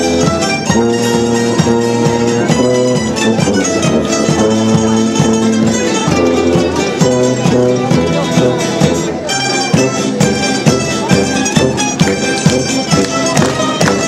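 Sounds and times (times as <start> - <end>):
mandolins and guitar playing: 0.0 - 14.0
tuba bass line: 0.0 - 14.0.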